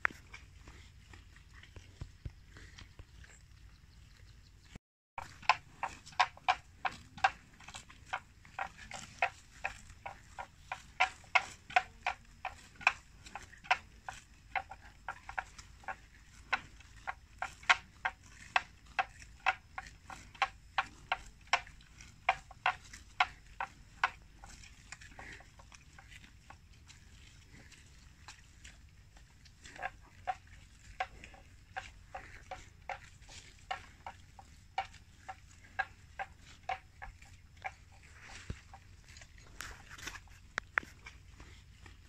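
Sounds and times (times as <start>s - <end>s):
buffalo tearing grass: 5.2s - 42.0s.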